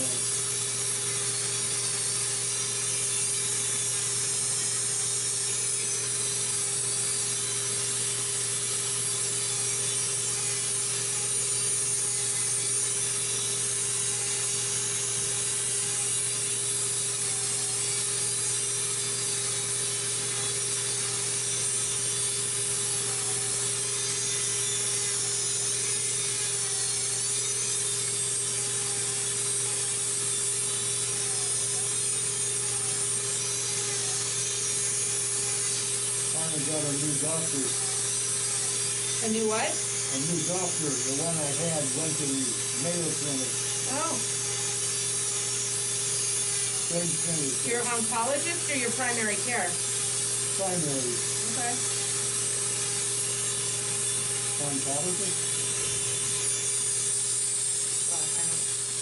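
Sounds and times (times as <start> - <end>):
electric nail drill grinding: 0.0 - 59.0.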